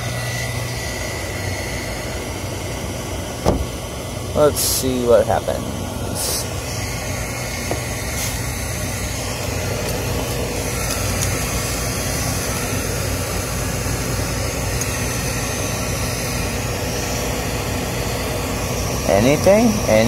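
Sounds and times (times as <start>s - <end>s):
fan motors humming: 0.0s - 20.0s.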